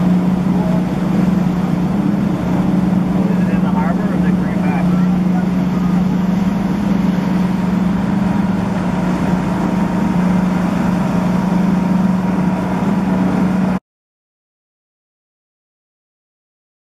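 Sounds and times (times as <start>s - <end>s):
motorboat engine running: 0.0s - 13.8s
rushing water: 0.0s - 13.8s
wind: 0.0s - 13.8s.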